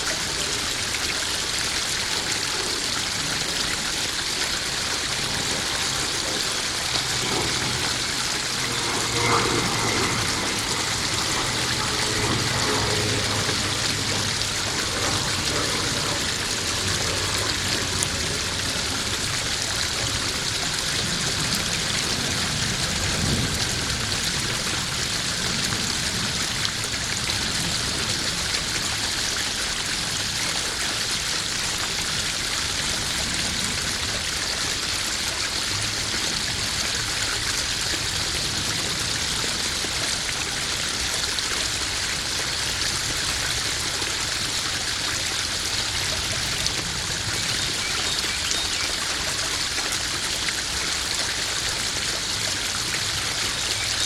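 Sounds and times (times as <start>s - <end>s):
water splashing into pond: 0.0s - 54.0s.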